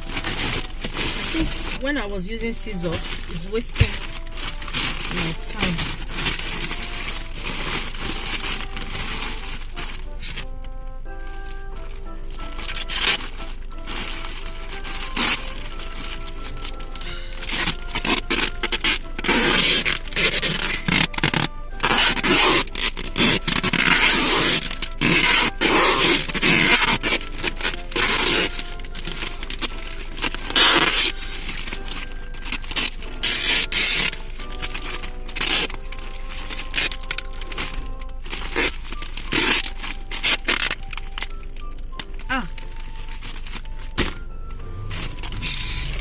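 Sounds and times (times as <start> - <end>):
background music: 0.0 - 46.0
wrapping paper crinkling and tearing: 0.0 - 46.0.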